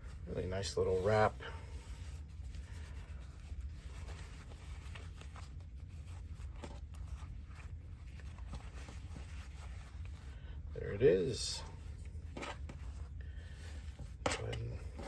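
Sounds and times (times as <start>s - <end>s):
steady low hum: 0.0s - 15.0s
packaging rustling and scratching: 1.0s - 15.0s.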